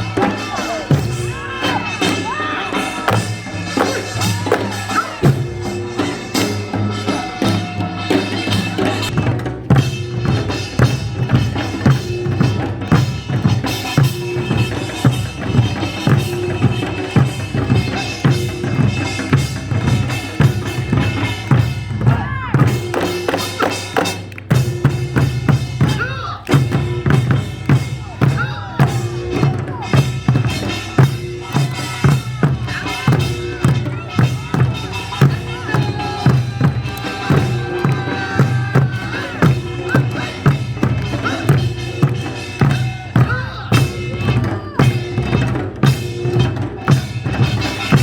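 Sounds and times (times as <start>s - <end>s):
folk drumming: 0.0s - 48.0s.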